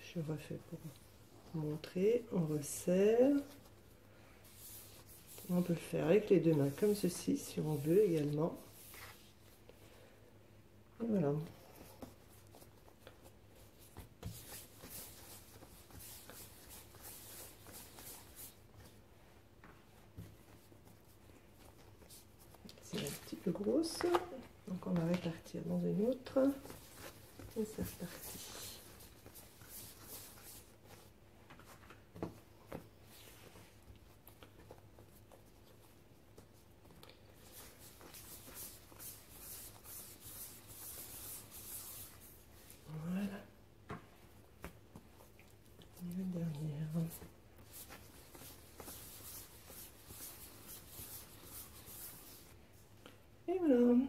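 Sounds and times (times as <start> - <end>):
hands rubbing dough on counter: 4.4 - 9.6, 11.6 - 32.0, 32.7 - 43.4, 44.4 - 52.6.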